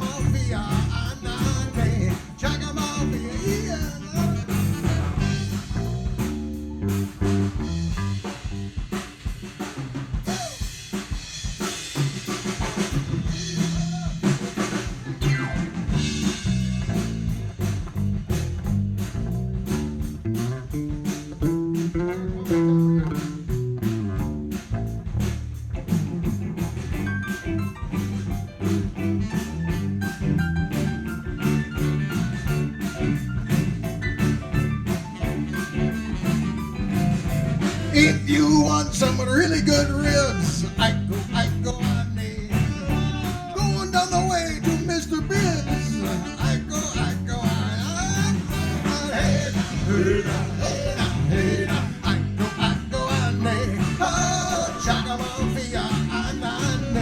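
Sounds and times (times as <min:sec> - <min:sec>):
sustained bass line: 0:00.0 - 0:09.1, 0:11.3 - 0:57.0
drum kit beat: 0:00.0 - 0:57.0.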